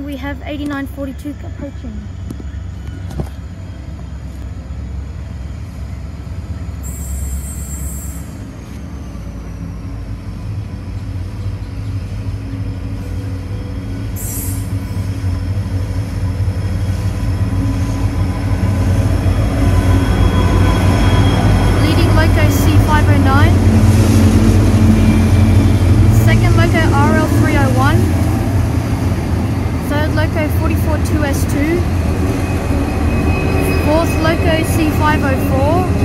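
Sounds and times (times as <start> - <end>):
diesel locomotive low hum: 0.0 - 36.0.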